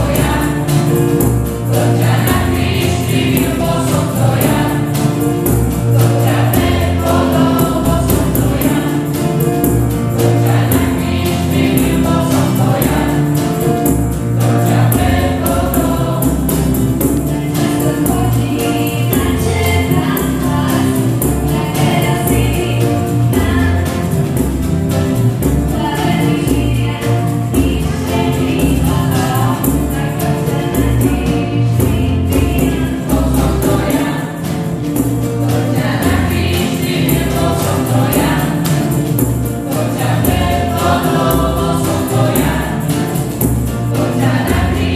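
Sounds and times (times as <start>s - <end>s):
acoustic guitar: 0.0s - 44.9s
group singing worship song: 0.0s - 44.9s
tambourine beat: 0.0s - 44.9s.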